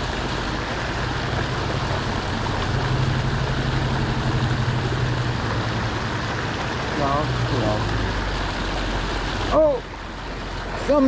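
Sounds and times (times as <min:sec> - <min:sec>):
low hum: 0:00.0 - 0:10.8
creek water flowing: 0:00.0 - 0:11.0.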